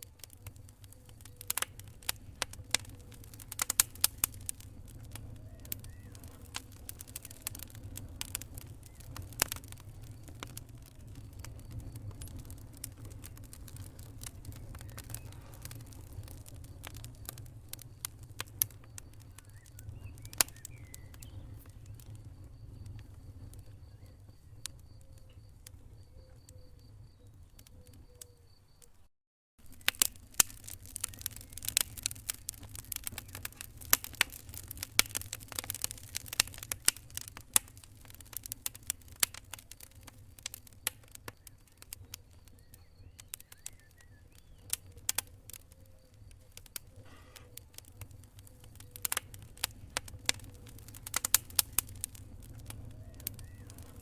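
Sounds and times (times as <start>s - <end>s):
wood fire crackling: 0.0s - 29.0s, 29.6s - 54.0s.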